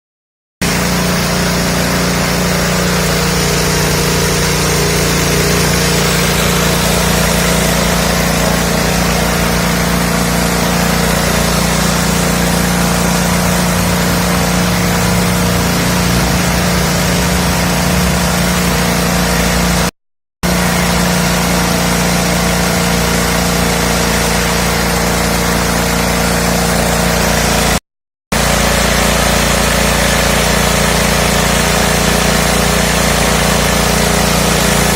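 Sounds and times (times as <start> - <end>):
small petrol engine running: 0.6 - 27.8, 28.4 - 34.9.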